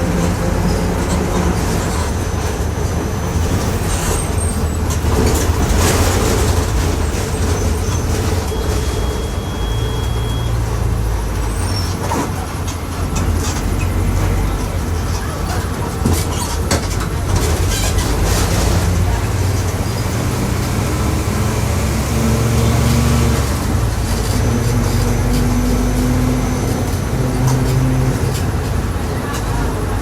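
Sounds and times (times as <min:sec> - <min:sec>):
bus engine drone: 0:00.0 - 0:30.0.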